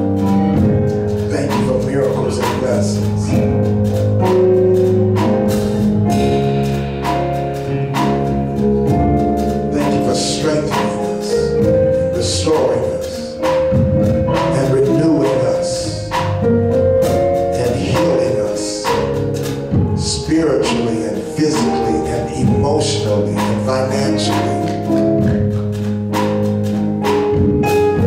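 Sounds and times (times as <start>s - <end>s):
slow instrumental music: 0.0s - 28.0s.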